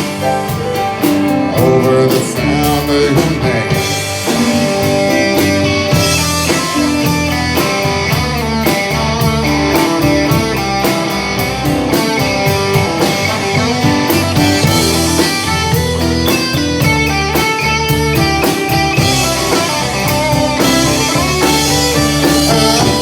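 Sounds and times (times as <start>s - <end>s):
country-rock band instrumental: 0.0s - 23.0s.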